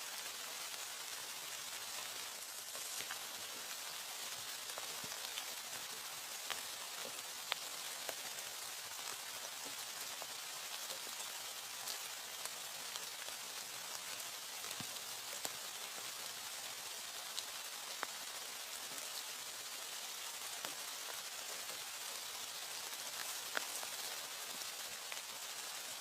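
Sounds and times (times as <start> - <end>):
steady rain hiss: 0.0 - 26.0
sharp raindrop ticks: 1.6 - 26.0.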